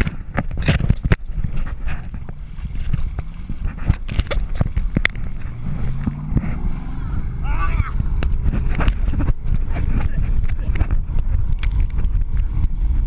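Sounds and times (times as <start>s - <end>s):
tube knocking and slapping on waves: 0.0s - 6.8s, 7.5s - 13.0s
wind noise on microphone: 0.0s - 13.0s.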